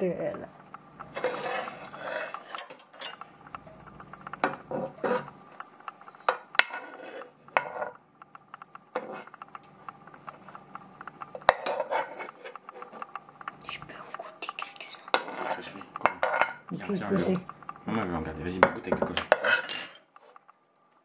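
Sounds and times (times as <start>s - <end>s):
cutlery scraping frying pan: 1.0s - 3.6s, 4.2s - 5.4s, 6.1s - 17.7s, 18.6s - 20.4s.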